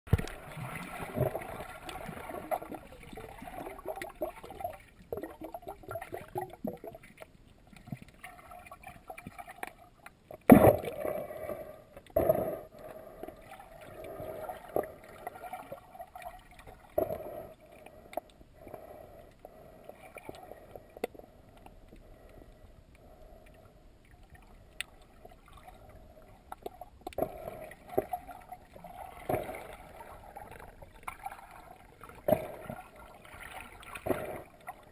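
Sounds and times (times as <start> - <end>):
water sloshing and gurgling underwater: 0.1 - 34.9.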